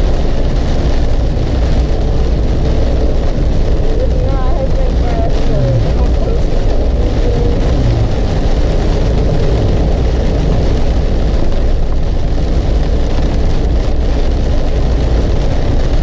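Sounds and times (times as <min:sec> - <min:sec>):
car driving in heavy rain: 0:00.0 - 0:16.0
deep rumble: 0:00.0 - 0:16.0.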